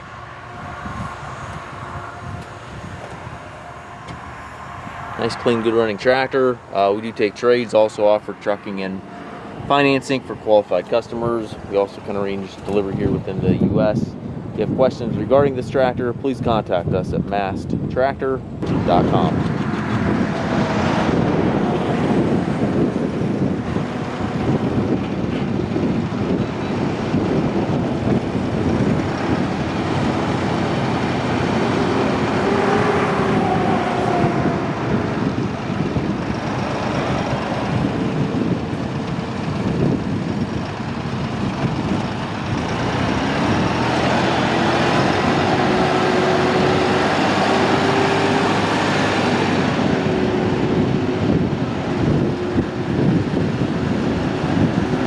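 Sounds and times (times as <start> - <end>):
tractor diesel engine running: 0.0 - 14.6, 18.4 - 55.0.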